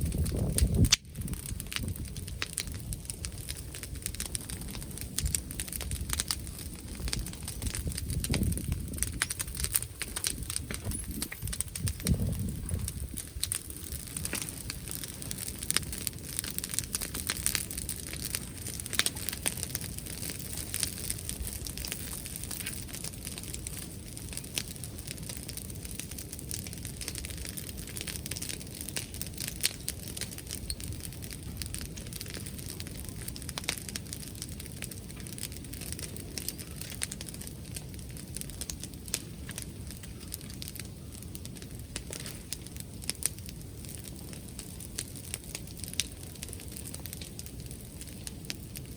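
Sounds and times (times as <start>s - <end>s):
bonfire crackling and popping: 0.0s - 48.9s.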